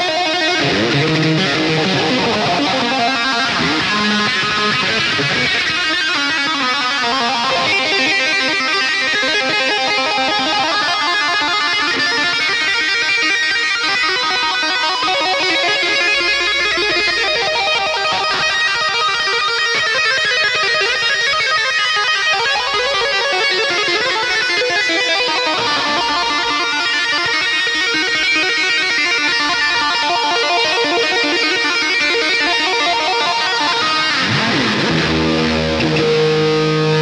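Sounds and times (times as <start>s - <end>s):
guitar background music: 0.0s - 37.0s.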